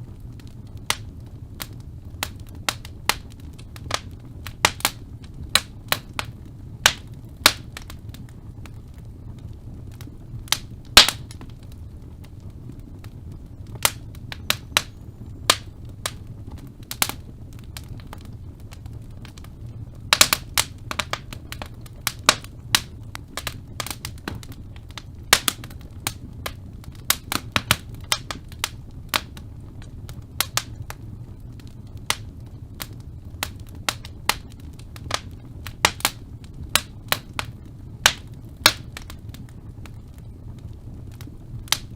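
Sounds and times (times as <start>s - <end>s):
logs crackling and popping: 0.0s - 41.9s
low rumble of flames: 0.0s - 41.9s.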